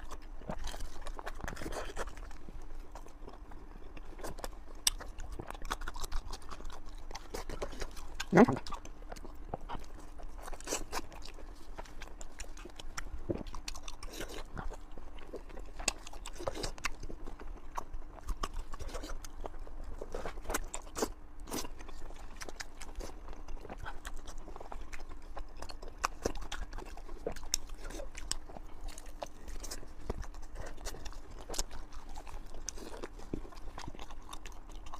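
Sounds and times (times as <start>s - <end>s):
chewing sausage: 0.0s - 34.9s.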